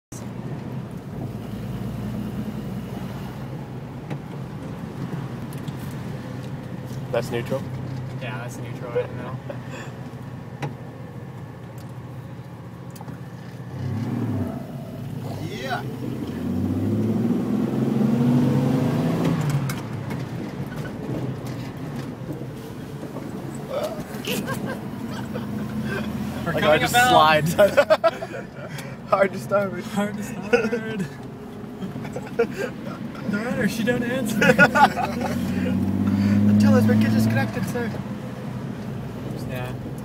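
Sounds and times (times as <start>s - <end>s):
car engine humming: 0.1s - 40.0s.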